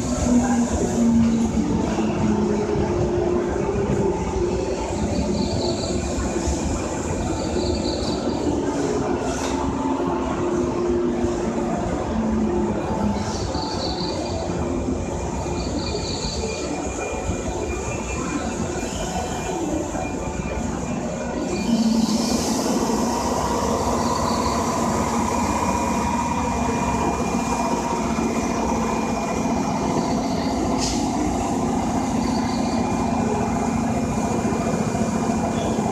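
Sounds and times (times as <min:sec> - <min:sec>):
train humming and whining: 0:00.0 - 0:35.9
train wheels rumbling on rails: 0:00.0 - 0:35.9.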